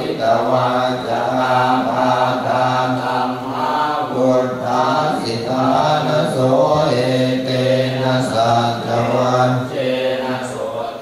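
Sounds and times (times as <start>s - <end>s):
low monotone chanting: 0.0s - 11.0s.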